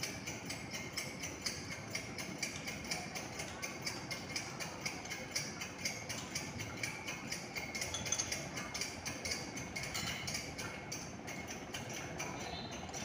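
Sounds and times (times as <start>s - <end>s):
regular ticking clatter: 0.0s - 13.0s.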